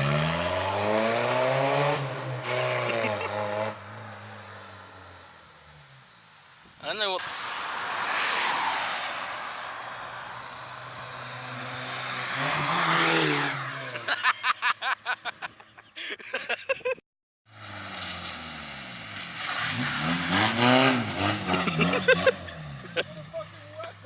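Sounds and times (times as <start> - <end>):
car engine revving: 0.0 - 6.2, 7.2 - 14.2, 17.5 - 24.0.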